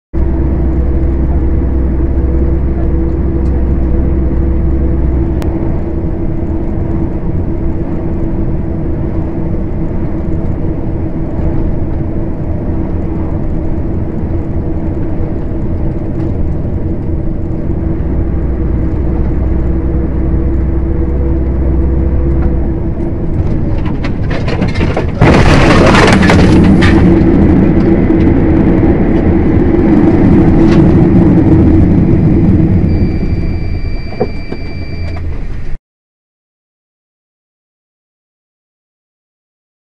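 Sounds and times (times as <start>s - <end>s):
road rumble: 0.1s - 35.8s
harsh rushing noise: 0.2s - 35.7s
truck engine drone: 0.2s - 35.8s.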